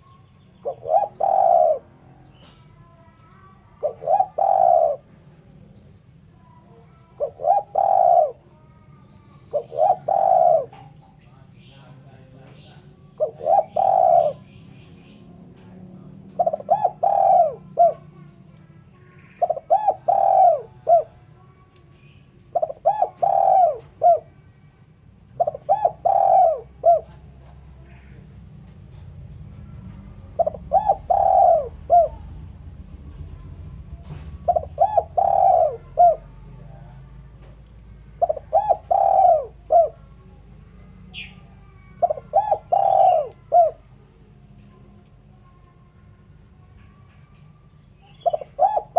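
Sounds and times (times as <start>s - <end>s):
dove cooing: 0.0s - 5.7s, 6.4s - 11.2s, 12.5s - 48.9s.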